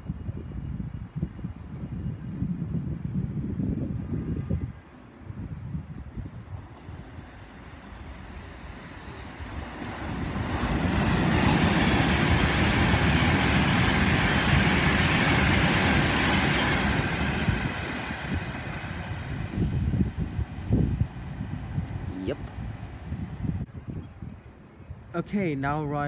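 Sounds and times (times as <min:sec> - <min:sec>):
electric train passing at speed: 0:00.0 - 0:23.7.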